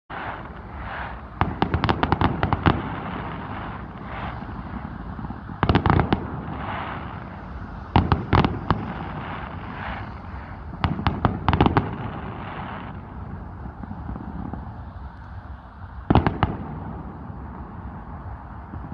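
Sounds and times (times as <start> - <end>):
firework hiss: 0.1 - 18.9
fireworks cracks and bangs: 0.1 - 18.9.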